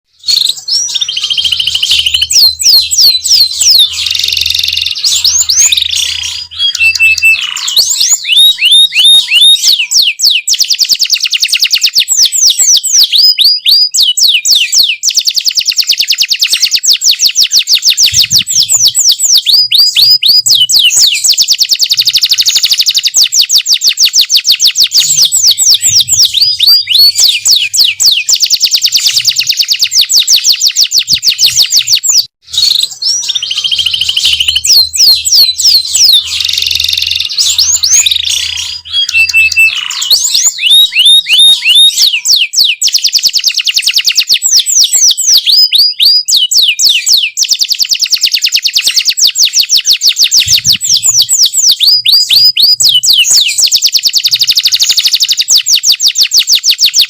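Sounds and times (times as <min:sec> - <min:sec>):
bird chirps: 0:00.1 - 0:57.0
canary singing trills: 0:00.1 - 0:57.0.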